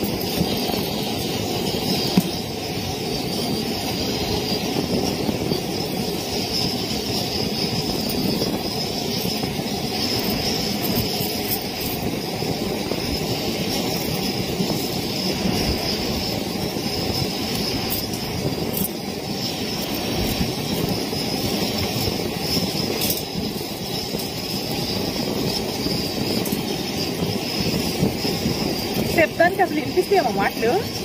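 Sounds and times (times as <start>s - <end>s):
wind rumble: 0.0s - 31.0s.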